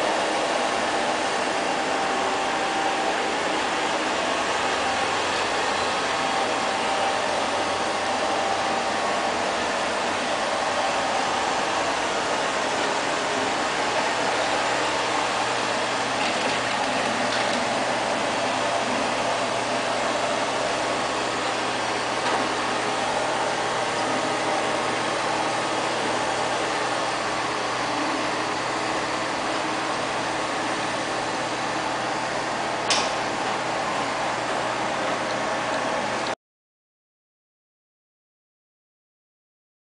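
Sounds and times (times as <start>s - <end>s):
robot vacuum cleaner whirring: 0.0s - 32.8s.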